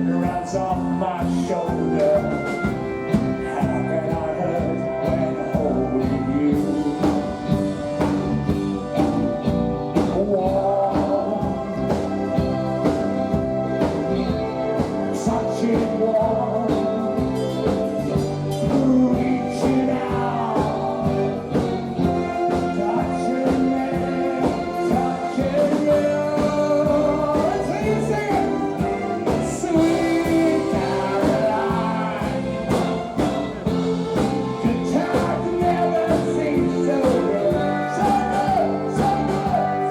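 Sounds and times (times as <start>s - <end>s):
person singing: 0.0s - 9.0s, 9.8s - 39.9s
live band playing: 0.0s - 39.9s.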